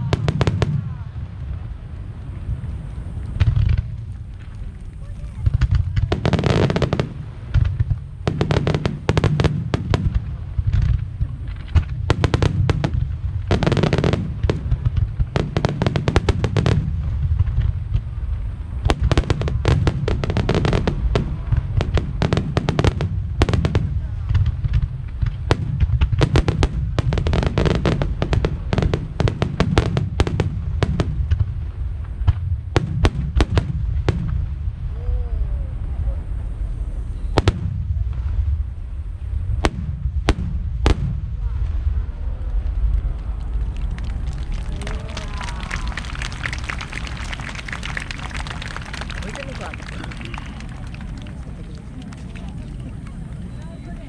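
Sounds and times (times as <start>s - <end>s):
fireworks bursting with sharp bangs: 0.0s - 35.0s, 36.3s - 54.0s
continuous low rumble: 0.0s - 54.0s.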